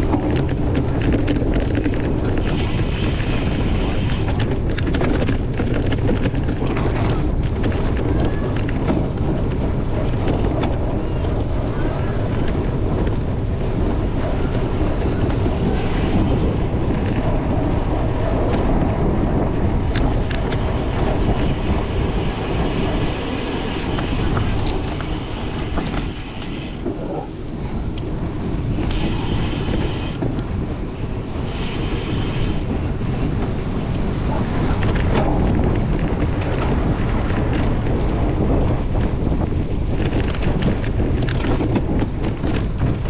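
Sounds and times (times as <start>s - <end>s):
bike rattling over rough ground: 0.0s - 43.0s
wind buffeting microphone: 0.0s - 43.0s.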